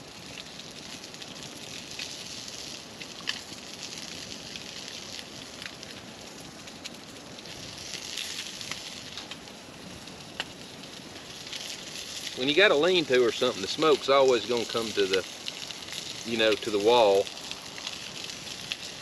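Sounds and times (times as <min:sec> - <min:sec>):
campfire hissing and crackling: 0:00.0 - 0:19.0.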